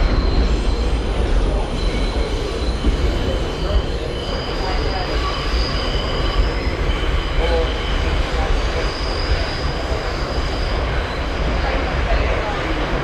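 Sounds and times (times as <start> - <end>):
high wheel squeal: 0.0 - 13.0
subway wheels rumbling on rail: 0.0 - 13.0.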